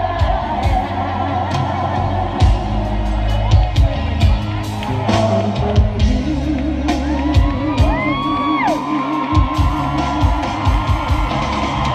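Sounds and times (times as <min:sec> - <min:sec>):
live pop music: 0:00.0 - 0:11.9
audience whooping: 0:00.2 - 0:11.9.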